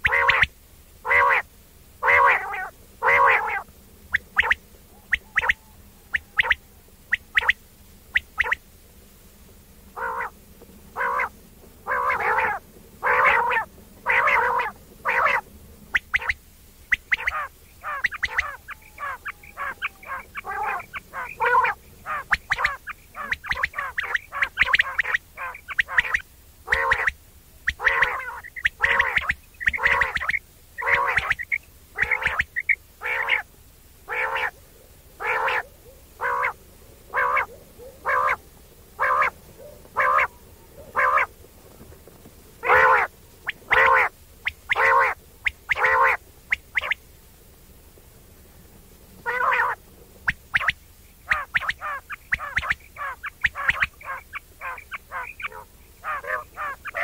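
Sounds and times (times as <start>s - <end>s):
quail calling: 0.0s - 8.6s, 9.9s - 41.4s, 42.6s - 47.1s, 49.2s - 57.0s.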